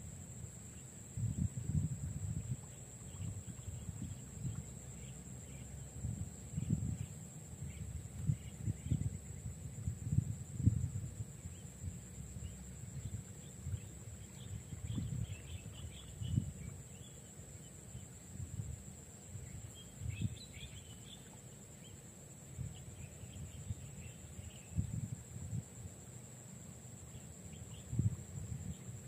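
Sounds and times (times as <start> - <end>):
wind buffeting microphone: 1.0 - 17.1, 17.9 - 20.9, 22.6 - 25.7, 27.6 - 29.0.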